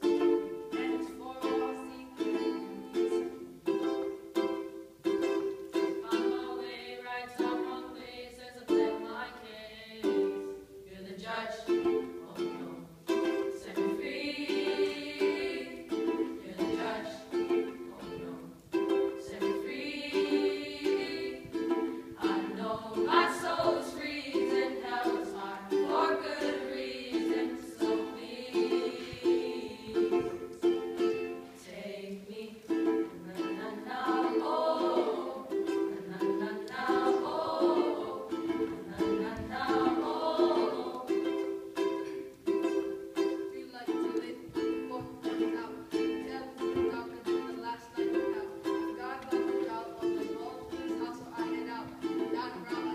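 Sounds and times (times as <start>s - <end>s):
ukulele strumming: 0.0s - 52.9s
boys singing: 0.7s - 3.1s, 6.0s - 52.9s.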